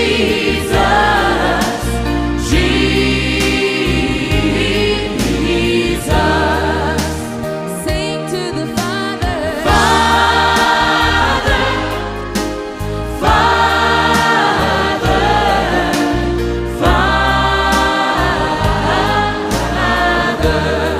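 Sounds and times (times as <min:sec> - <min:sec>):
sustained bass accompaniment: 0:00.0 - 0:20.9
voices singing gospel: 0:00.0 - 0:20.9.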